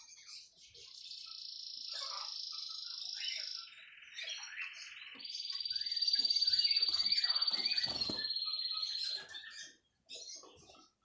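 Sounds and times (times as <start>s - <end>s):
canary trilling: 0.0s - 10.6s.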